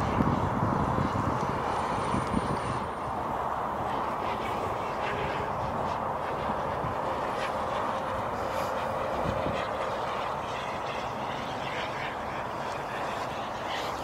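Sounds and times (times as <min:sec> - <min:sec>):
model jet turbine passing: 0:00.0 - 0:14.0.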